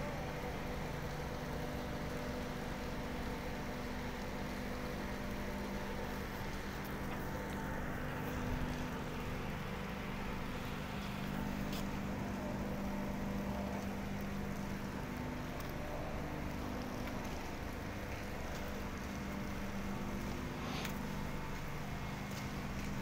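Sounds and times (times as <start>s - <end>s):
machinery drone: 0.0s - 23.0s.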